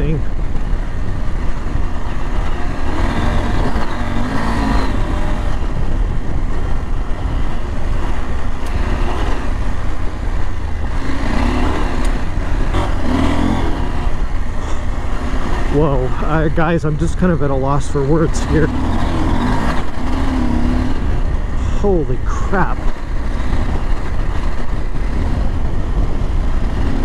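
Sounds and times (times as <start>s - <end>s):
motorcycle engine: 0.0s - 27.0s
road and wind noise: 0.0s - 27.0s.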